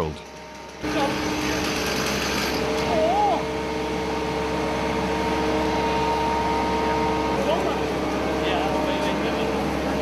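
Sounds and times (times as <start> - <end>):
heavy machine engine whining: 0.0 - 10.0.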